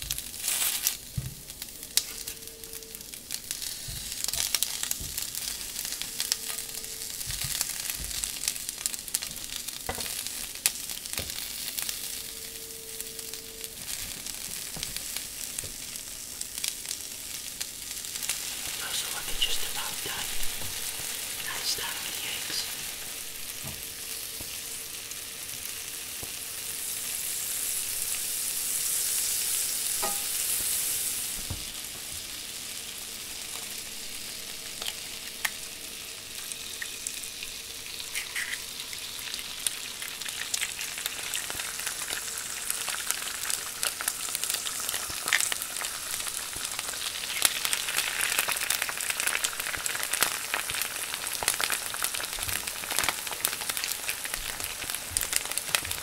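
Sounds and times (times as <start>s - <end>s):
butter sizzling in skillet: 0.0s - 56.0s
eggs frying with crackling pops: 0.0s - 56.0s.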